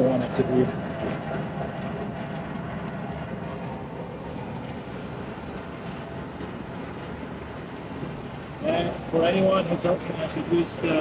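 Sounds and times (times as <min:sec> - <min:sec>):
air conditioning unit droning: 0:00.0 - 0:11.0.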